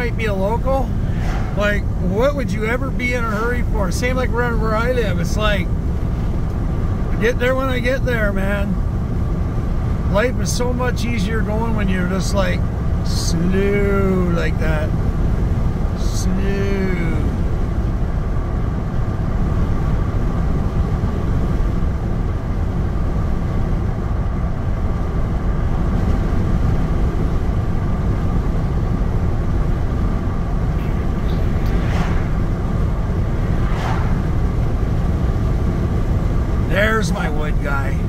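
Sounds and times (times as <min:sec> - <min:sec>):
faint steady hum: 0:00.0 - 0:38.0
truck engine and tyre road noise: 0:00.0 - 0:38.0.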